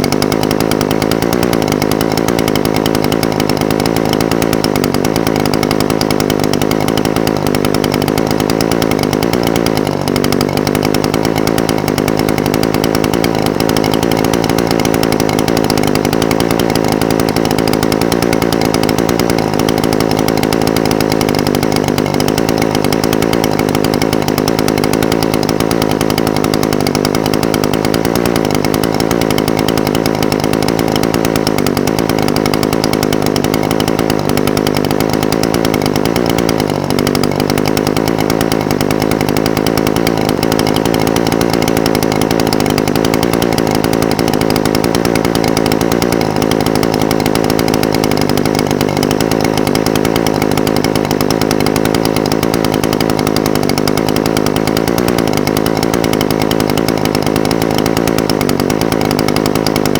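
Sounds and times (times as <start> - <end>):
brush cutter engine idling: 0.0 - 59.9.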